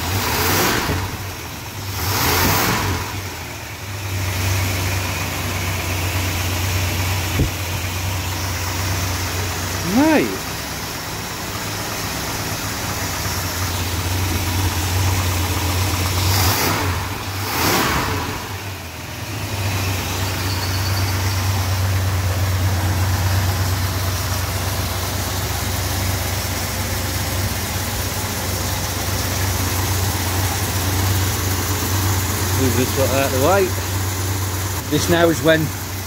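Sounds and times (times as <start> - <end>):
vee-eight engine running: 0.0 - 36.0.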